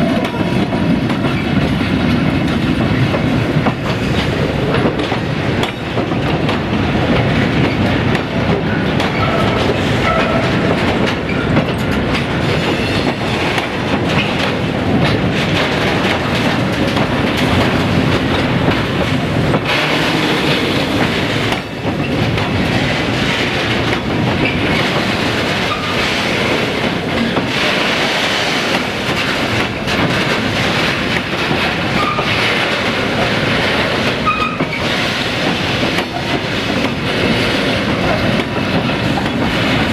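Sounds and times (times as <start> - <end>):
freight train wheels clicking on rails: 0.0 - 39.9.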